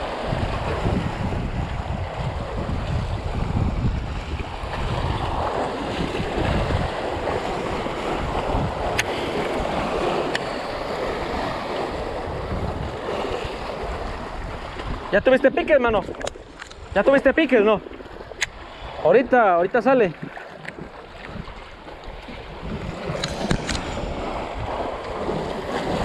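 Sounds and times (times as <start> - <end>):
surf washing against rocks: 0.0 - 26.0
wind buffeting microphone: 0.0 - 26.0.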